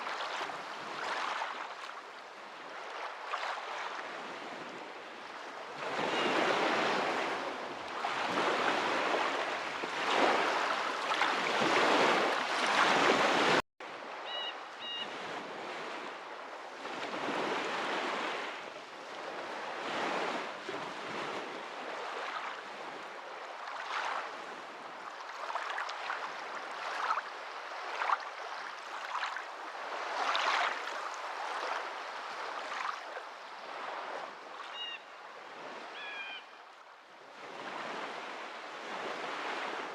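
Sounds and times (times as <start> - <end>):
waves washing in: 0.0 - 14.2, 14.8 - 34.9, 37.3 - 39.9.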